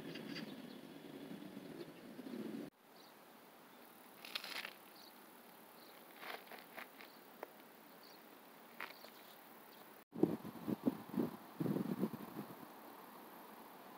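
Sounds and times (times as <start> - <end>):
low steady hiss: 0.0 - 13.9.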